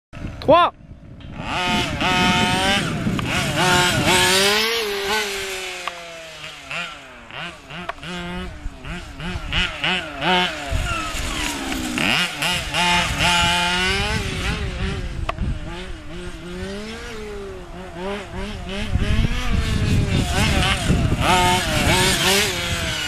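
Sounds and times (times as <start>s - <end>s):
rc car motor revving: 1.4s - 23.0s.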